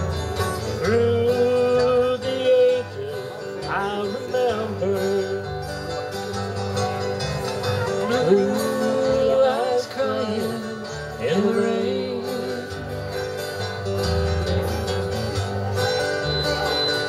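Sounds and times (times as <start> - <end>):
acoustic country band playing: 0.0 - 17.0.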